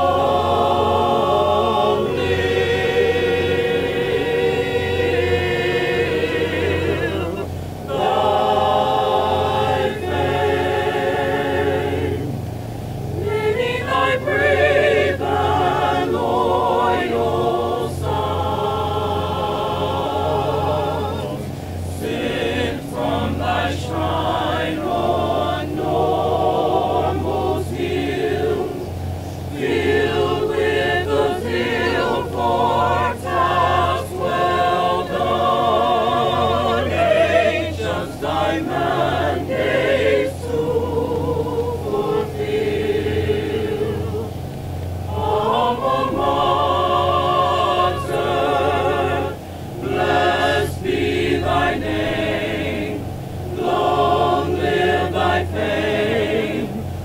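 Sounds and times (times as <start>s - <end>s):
choir singing slow song: 0.0s - 57.0s.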